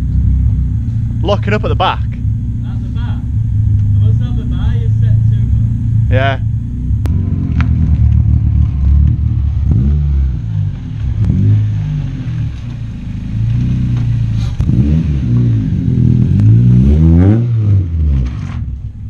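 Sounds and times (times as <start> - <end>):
car engine driving past: 1.9 - 18.8.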